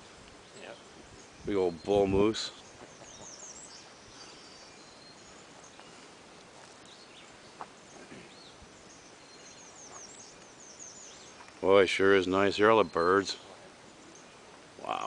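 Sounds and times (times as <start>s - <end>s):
faint bird chirps: 0.0s - 15.0s
outdoor ambience hush: 0.0s - 15.0s.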